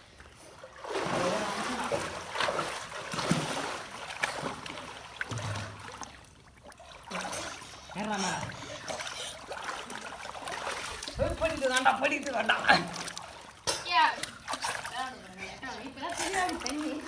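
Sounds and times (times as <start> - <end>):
water splashing and churning: 0.0 - 17.0.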